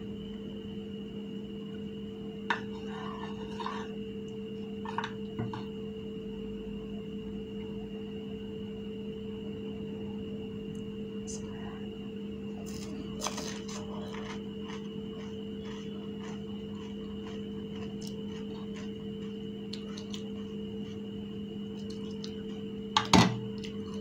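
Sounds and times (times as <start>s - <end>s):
steady hum of fixed tones: 0.0s - 24.0s.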